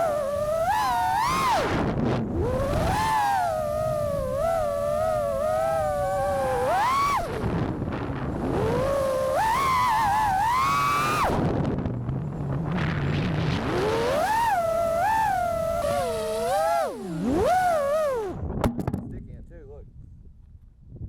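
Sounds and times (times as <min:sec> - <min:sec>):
quadcopter motors whining: 0:00.0 - 0:18.4.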